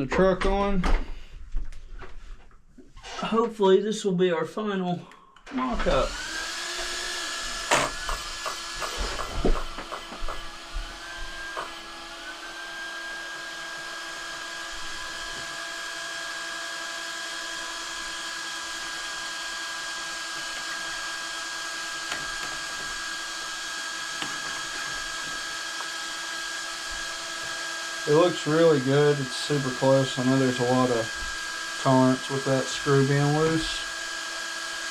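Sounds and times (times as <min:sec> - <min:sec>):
servo whine: 0:05.5 - 0:34.9.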